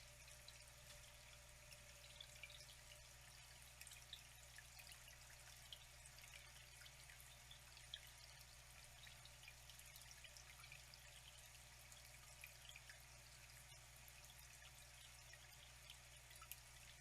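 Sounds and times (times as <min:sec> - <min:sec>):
faint trickling water: 0:00.0 - 0:17.0
water drips and splashes: 0:00.0 - 0:17.0.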